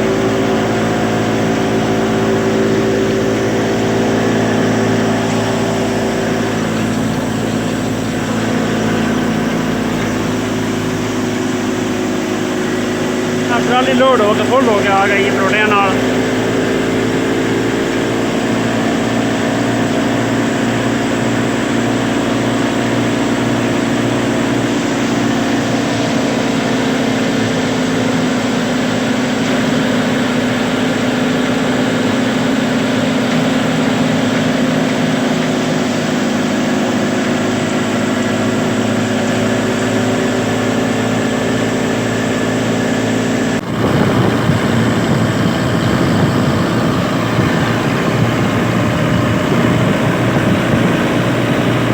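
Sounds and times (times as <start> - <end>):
thresher machine humming: 0.0 - 51.9.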